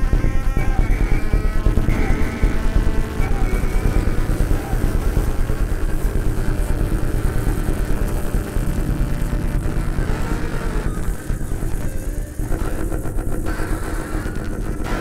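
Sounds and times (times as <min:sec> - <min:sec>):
fluttering electronic rumble: 0:00.0 - 0:15.0.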